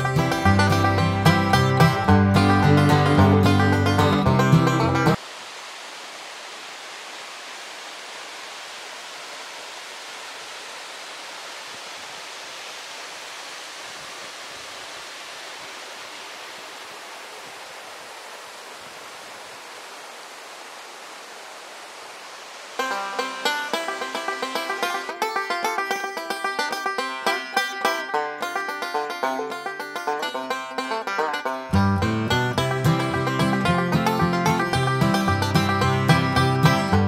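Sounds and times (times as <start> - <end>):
small waterfall rushing into pool: 0.1 - 37.0.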